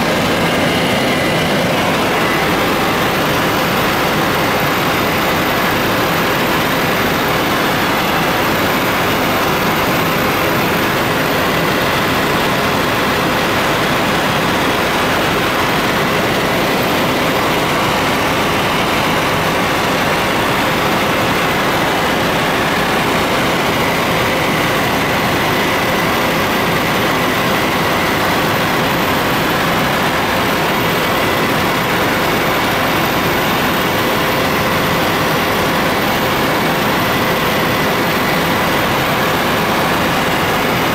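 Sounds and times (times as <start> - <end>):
helicopter drone from inside cabin: 0.0 - 40.9.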